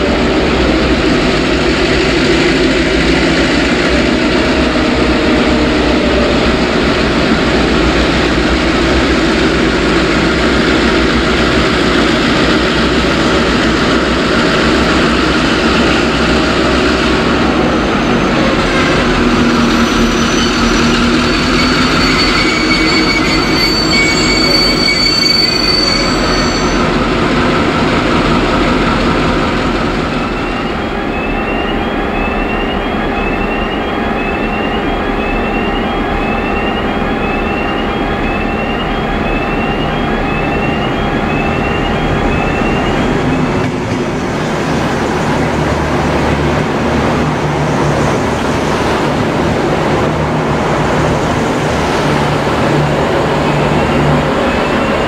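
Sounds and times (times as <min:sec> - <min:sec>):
diesel locomotive engine rumbling: 0:00.0 - 0:55.0
wheels squealing on rails: 0:00.0 - 0:55.0.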